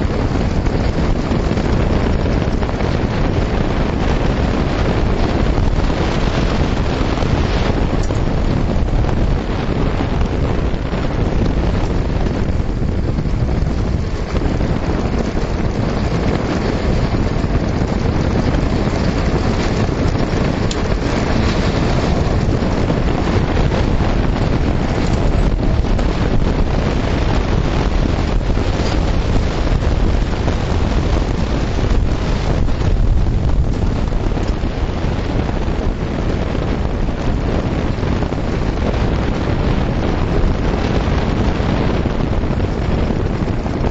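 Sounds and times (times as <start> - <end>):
kart wheels rolling on dirt road: 0.0 - 43.9
wind buffeting microphone: 0.0 - 43.9.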